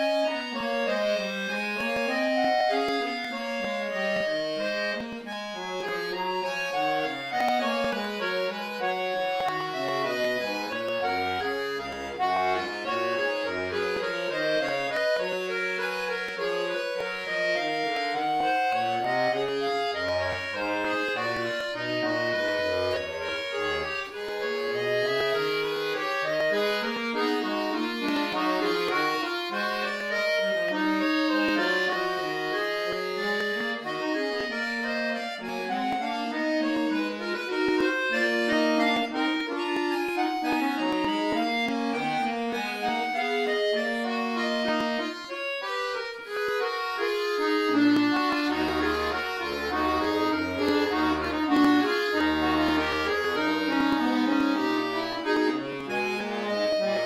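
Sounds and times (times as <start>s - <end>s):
button accordion playing: 0.0s - 57.0s.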